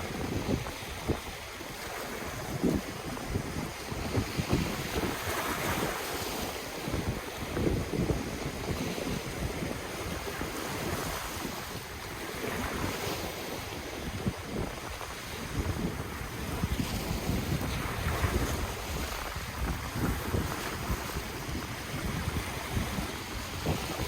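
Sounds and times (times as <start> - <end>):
ocean surf washing on shore: 0.0 - 24.0
wind buffeting microphone: 0.0 - 24.0.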